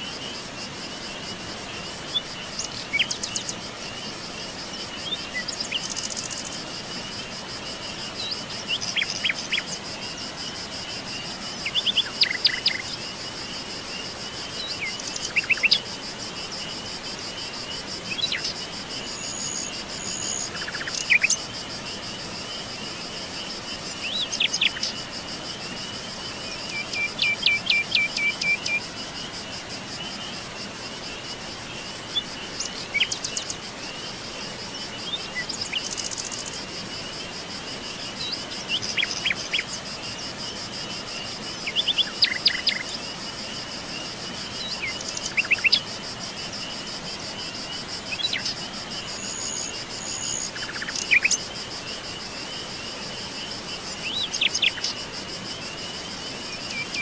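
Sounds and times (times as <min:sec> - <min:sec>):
forest birds chirping: 0:00.0 - 0:57.0
high-pitched insect trill: 0:00.0 - 0:57.0.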